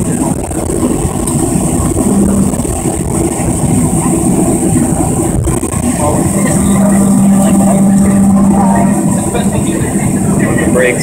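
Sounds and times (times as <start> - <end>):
high engine whine: 0.0 - 11.0
jet engine low rumble: 0.0 - 11.0.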